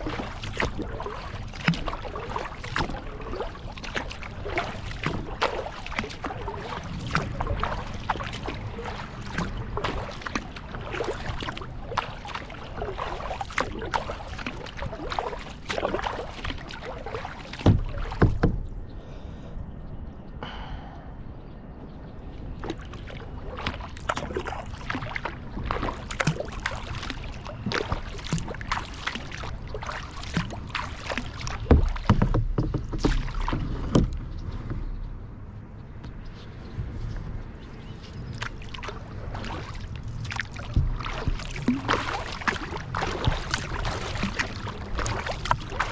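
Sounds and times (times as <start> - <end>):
paddle splashing in water: 0.0 - 19.2, 22.4 - 35.0, 37.0 - 45.9.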